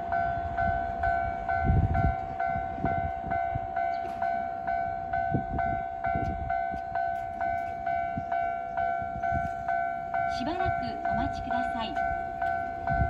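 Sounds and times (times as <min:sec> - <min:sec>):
level-crossing bell ringing: 0:00.1 - 0:13.0.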